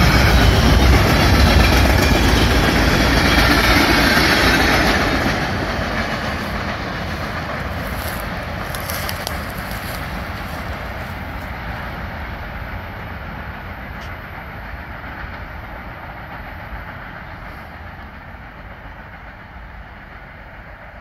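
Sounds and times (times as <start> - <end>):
freight train rumble: 0.0 - 21.0.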